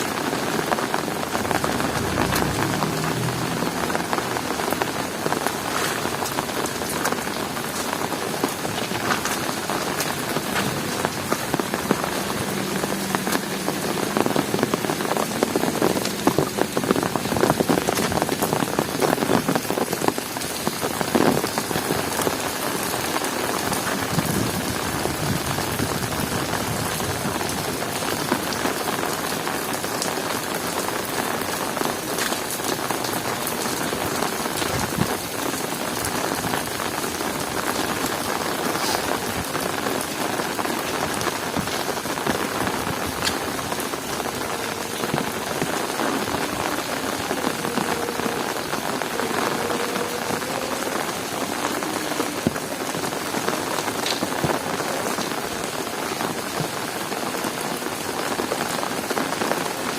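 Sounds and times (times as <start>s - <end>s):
heavy rain falling: 0.0s - 59.9s
raindrops ticking on surfaces: 0.0s - 59.9s.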